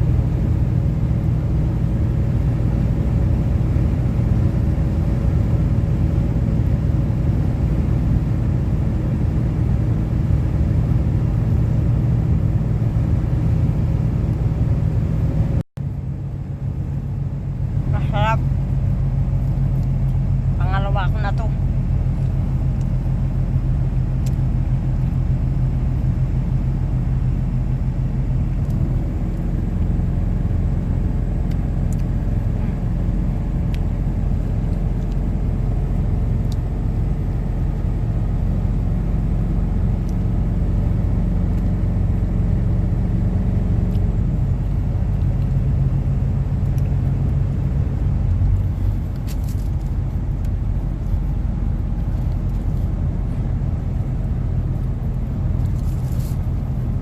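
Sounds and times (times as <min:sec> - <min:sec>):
car cabin road and engine rumble: 0:00.0 - 0:57.0.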